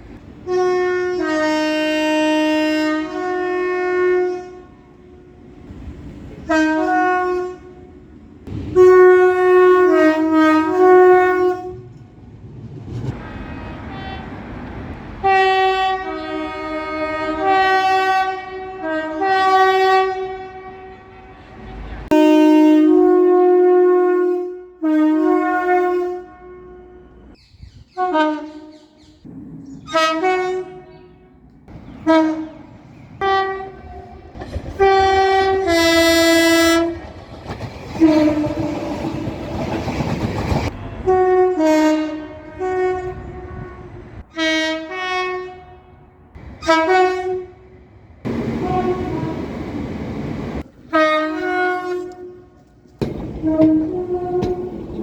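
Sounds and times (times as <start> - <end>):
train horn blasts: 0.0 - 5.6, 6.2 - 12.1, 13.1 - 29.2, 29.8 - 37.1, 37.9 - 49.8, 50.8 - 55.0
train rumble and rail clatter: 0.0 - 55.0.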